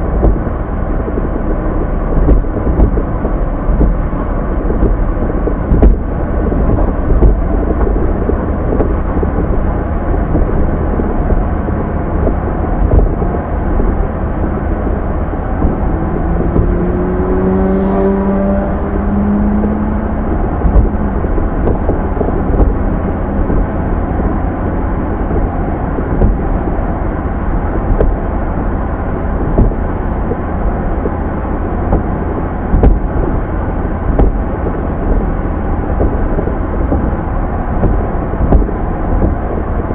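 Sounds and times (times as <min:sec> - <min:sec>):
knocks from road surface: 0:00.0 - 0:23.7, 0:25.2 - 0:26.7, 0:29.4 - 0:39.9
rising hum: 0:00.0 - 0:39.9
road and tyre rumble: 0:00.0 - 0:39.9.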